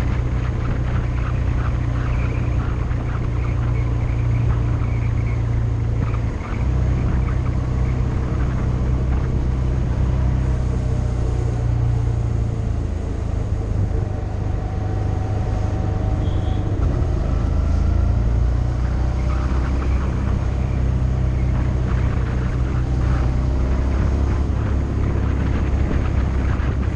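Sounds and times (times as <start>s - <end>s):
motorcycle engine running: 0.0s - 26.9s
road noise: 0.0s - 26.9s
wind noise: 0.0s - 26.9s.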